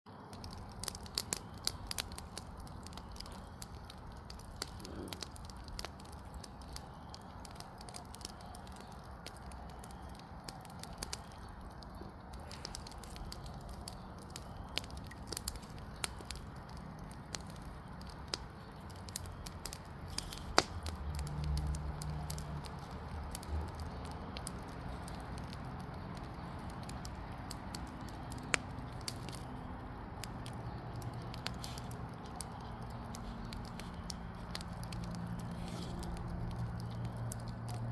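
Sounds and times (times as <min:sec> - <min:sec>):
fire crackling and popping: 0:00.1 - 0:37.9.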